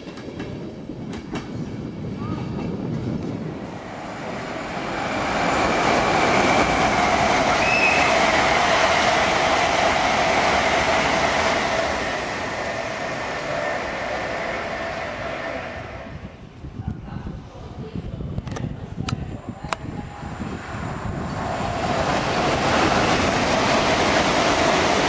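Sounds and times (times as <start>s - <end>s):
high-speed train passing: 0.0s - 25.0s.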